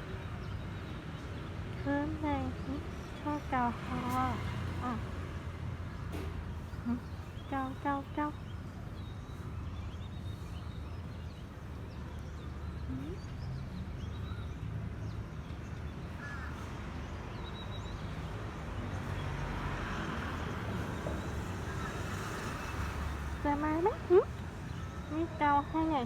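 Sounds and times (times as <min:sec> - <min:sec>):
birds chirping: 0:00.0 - 0:19.8, 0:20.7 - 0:26.0.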